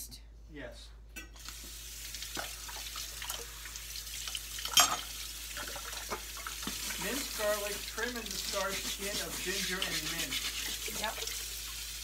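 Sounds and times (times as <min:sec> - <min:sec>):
tap water running into sink: 0:01.4 - 0:12.0.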